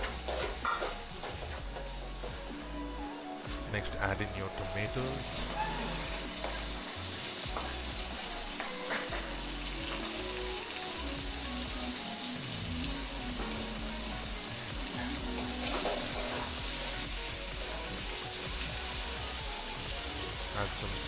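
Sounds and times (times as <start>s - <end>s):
tomatoes sizzling in oil: 0.0s - 21.0s.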